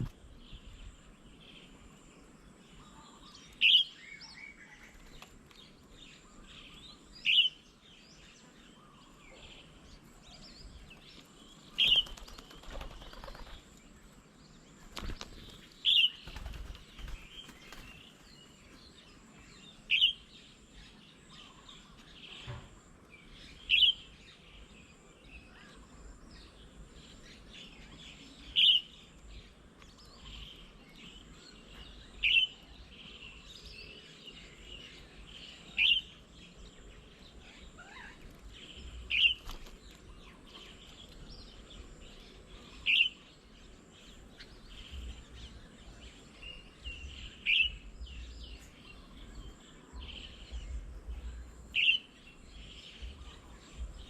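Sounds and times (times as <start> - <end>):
birds chirping softly: 0.0 - 54.0.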